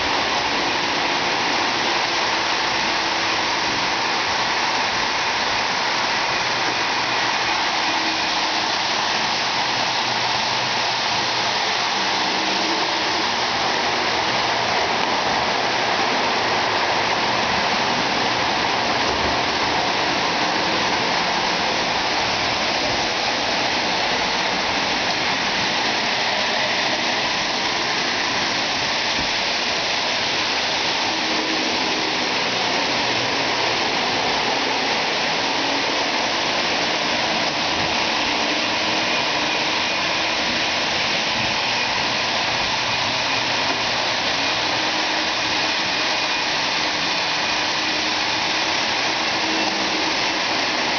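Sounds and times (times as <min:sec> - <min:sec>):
metal wheels rushing on rails: 0:00.0 - 0:50.9.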